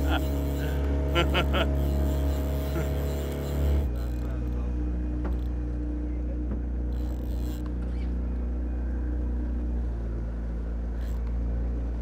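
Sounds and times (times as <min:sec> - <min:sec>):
outboard motors droning: 0:00.0 - 0:12.0.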